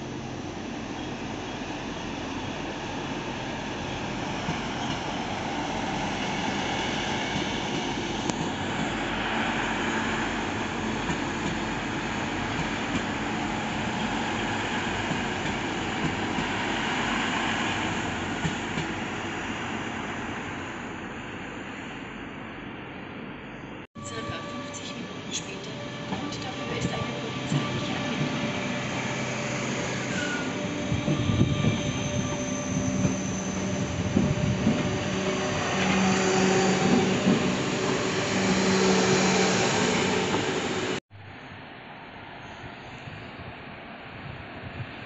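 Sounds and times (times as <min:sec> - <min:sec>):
train wheels rumbling on rail: 0:00.0 - 0:20.1, 0:24.0 - 0:41.0.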